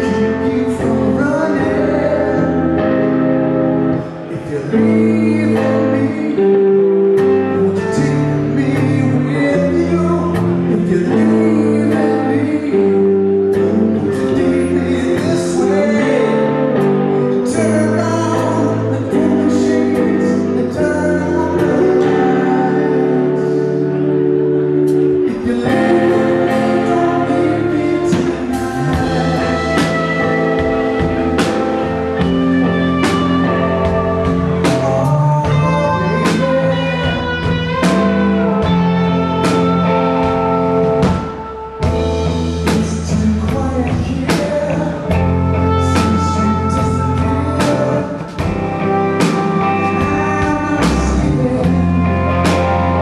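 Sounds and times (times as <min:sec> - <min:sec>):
live rock band playing: 0:00.0 - 0:53.0
man singing: 0:00.0 - 0:53.0.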